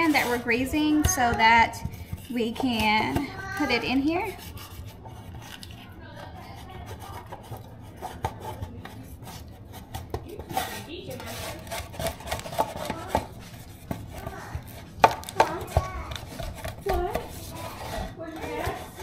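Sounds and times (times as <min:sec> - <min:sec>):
rubbing and scraping inside pan: 0:00.0 - 0:19.0.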